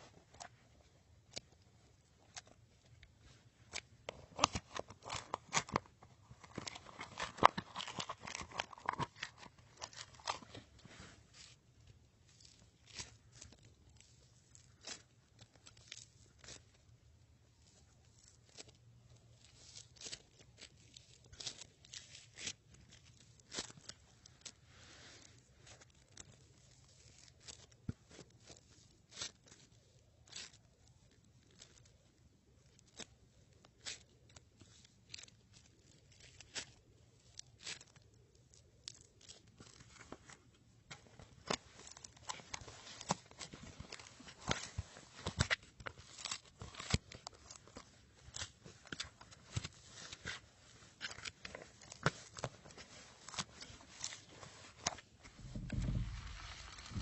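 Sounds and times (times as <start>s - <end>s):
crunchy slime crackling: 0.0s - 32.0s, 32.6s - 57.0s.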